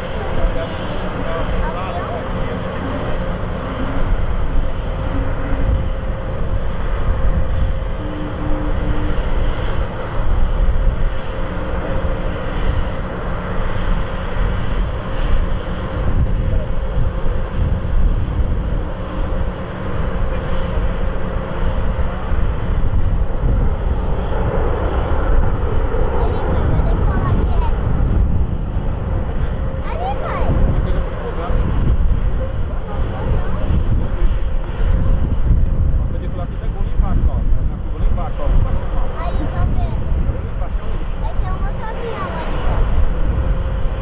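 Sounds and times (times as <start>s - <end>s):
distant jet rumble: 0.0s - 44.0s
faint jet whine: 0.0s - 44.0s
wind buffeting microphone: 0.0s - 44.0s.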